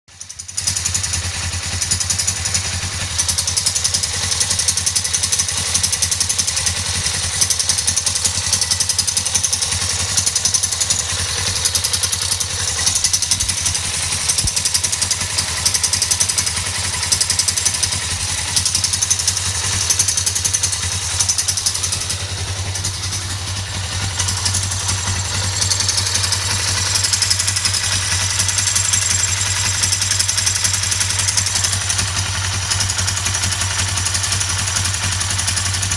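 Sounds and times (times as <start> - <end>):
engine ticking noise: 0.1 - 35.9
motorcycle engine idling: 0.1 - 35.9.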